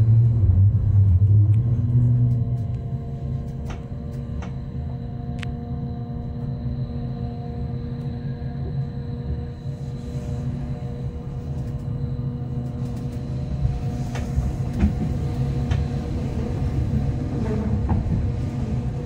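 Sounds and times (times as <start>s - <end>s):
steady hum tones: 0.0s - 17.4s
train running gear rumble: 0.0s - 19.0s.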